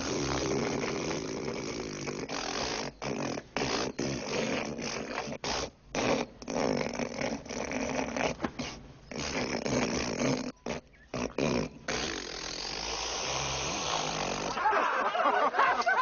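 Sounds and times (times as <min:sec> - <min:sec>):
man hawking phlegm: 0:00.0 - 0:14.8.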